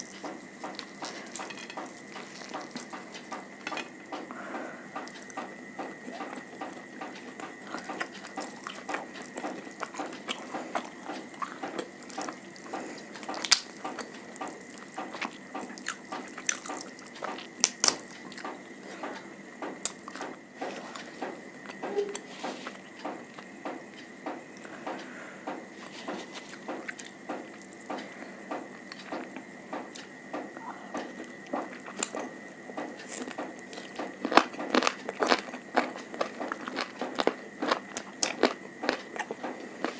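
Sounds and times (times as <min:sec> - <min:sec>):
person chewing wetly: 0:00.0 - 0:19.2, 0:25.9 - 0:39.9.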